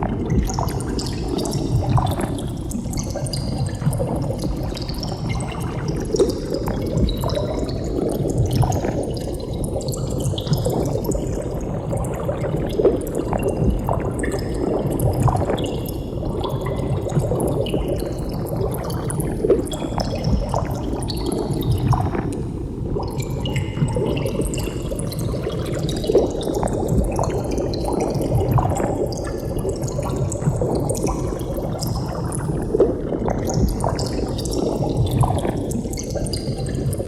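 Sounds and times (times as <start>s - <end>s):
small bubble pops: 0.0s - 37.0s
underwater bubbles gurgling: 0.0s - 37.0s.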